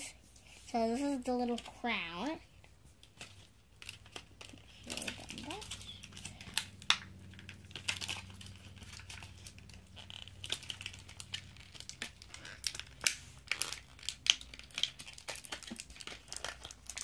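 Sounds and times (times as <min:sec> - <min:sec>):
plastic packaging crinkling: 0:03.0 - 0:17.0.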